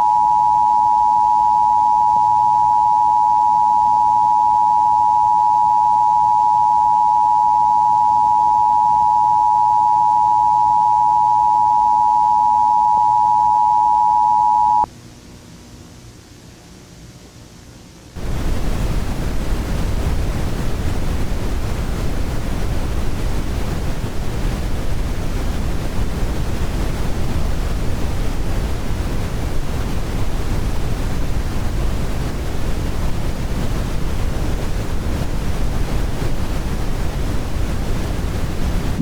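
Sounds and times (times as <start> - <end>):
broadcast static hiss: 0.0 - 39.0.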